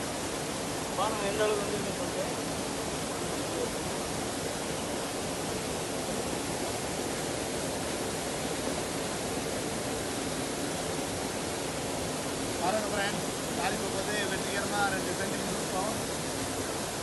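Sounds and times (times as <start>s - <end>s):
waterfall pouring onto rocks: 0.0s - 17.0s.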